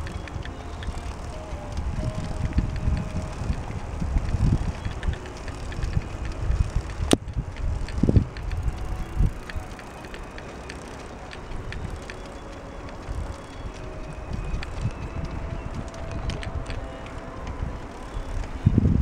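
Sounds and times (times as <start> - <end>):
bicycle tyres rolling on asphalt: 0.0 - 19.0
wind rumble on microphone: 0.0 - 19.0.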